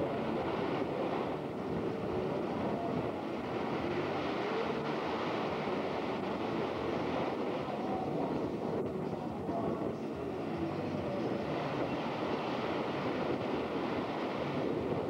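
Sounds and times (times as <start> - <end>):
surf washing: 0.0 - 15.0
wind on microphone: 0.0 - 15.0.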